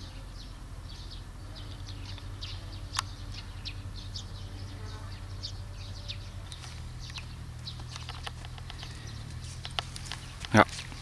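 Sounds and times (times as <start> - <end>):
low steady rumble: 0.0 - 11.0
small birds chirping: 0.0 - 11.0.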